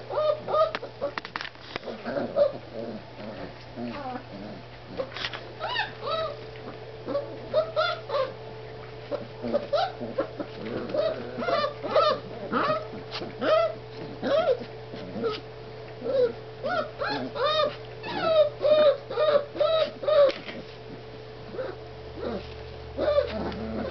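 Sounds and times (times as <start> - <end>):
puppies whining: 0.0 - 1.2, 1.8 - 23.9
steady low hum: 0.0 - 23.9.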